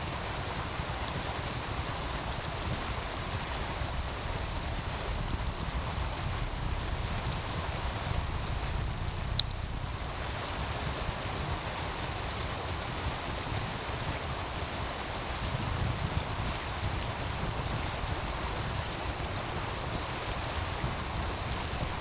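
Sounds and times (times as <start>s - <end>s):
low wind rumble: 0.0s - 22.0s
stream rushing: 0.0s - 22.0s
wood fire crackling: 0.0s - 22.0s.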